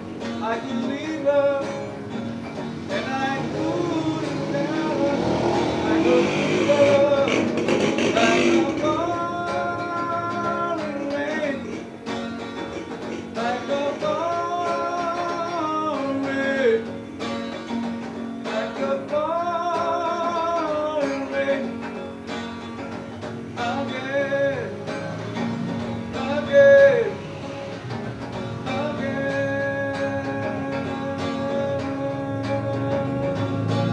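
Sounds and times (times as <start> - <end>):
guitar accompaniment: 0.0 - 33.9
man singing: 0.2 - 12.0, 13.2 - 17.2, 18.4 - 22.1, 23.5 - 27.5, 28.5 - 33.9.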